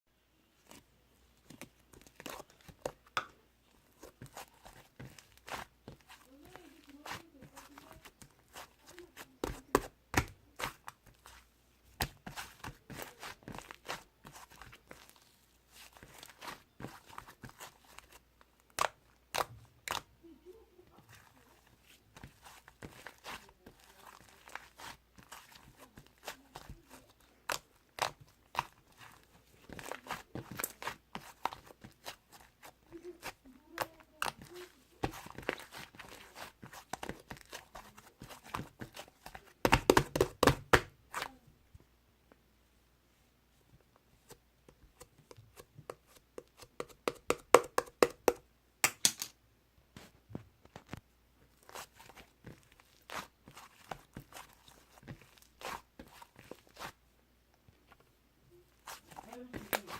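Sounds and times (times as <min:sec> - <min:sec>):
slime squelching: 0:00.5 - 0:41.4, 0:43.7 - 0:48.4, 0:50.0 - 0:59.9.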